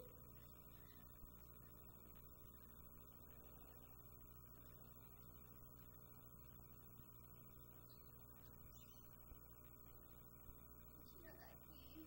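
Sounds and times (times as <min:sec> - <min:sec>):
background hiss: 0:00.0 - 0:12.0
faint electrical hum: 0:00.0 - 0:12.0.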